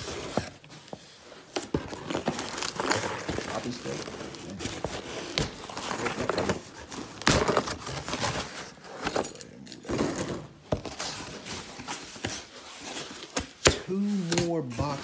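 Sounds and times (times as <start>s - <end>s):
cardboard packaging rustling: 0.0s - 9.4s, 10.4s - 15.0s.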